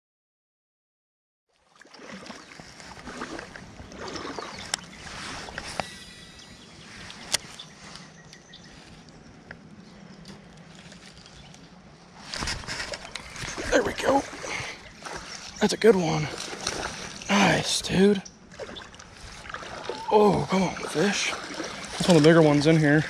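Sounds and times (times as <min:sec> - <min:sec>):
creek water sloshing: 0:01.5 - 0:23.0.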